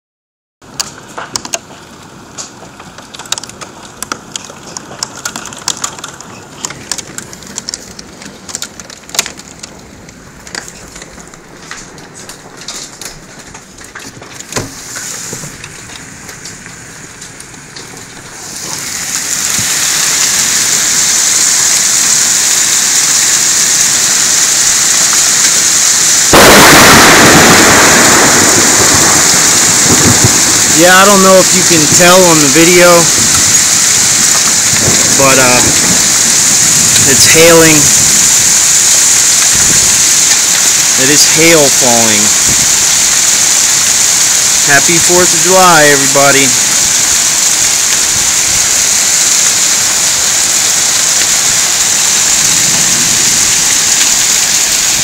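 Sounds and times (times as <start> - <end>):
hailstones striking: 0.7 - 55.0
rush of hail and rain: 0.7 - 55.0.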